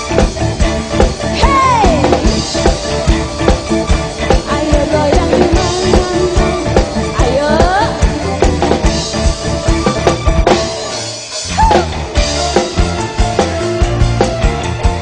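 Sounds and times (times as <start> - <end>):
live band playing: 0.0 - 15.0
steady drum beat: 0.0 - 15.0.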